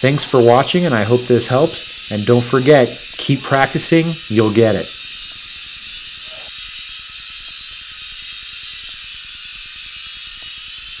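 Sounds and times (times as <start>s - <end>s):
toy drone propellers whirring: 0.0s - 11.0s.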